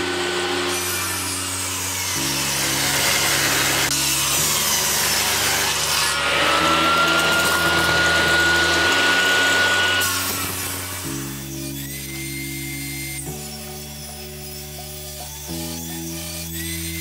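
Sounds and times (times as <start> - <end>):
table saw cutting wood: 0.0 - 17.0.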